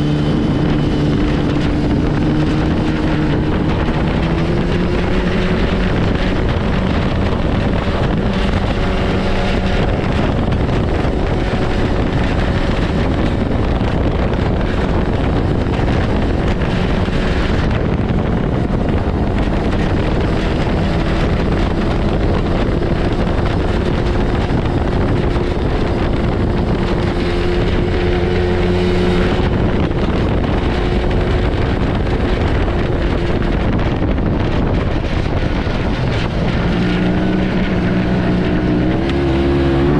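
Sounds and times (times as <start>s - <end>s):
snowmobile engine running: 0.0s - 39.9s
wind on microphone: 0.0s - 39.9s.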